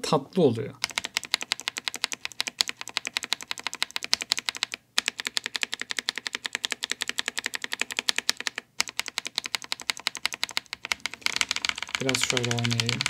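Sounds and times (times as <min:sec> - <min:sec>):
mechanical keyboard typing: 0:00.8 - 0:13.0.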